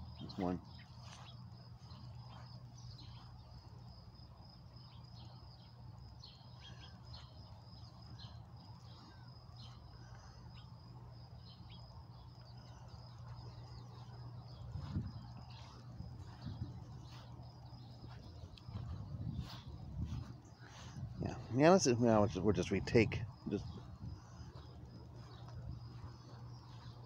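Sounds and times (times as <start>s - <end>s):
birds chirping: 0.0s - 27.0s
low steady hum: 0.0s - 27.0s.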